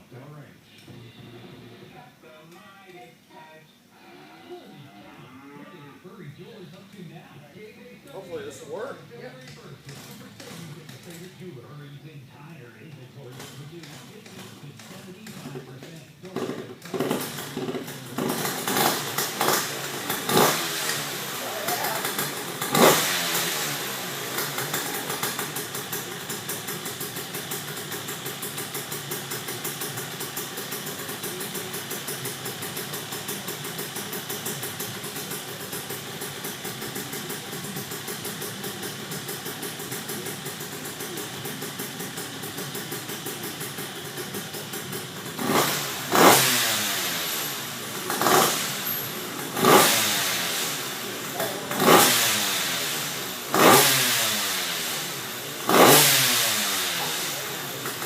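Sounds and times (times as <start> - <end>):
quad engine idling and revving: 8.2 - 11.4, 12.3 - 58.0.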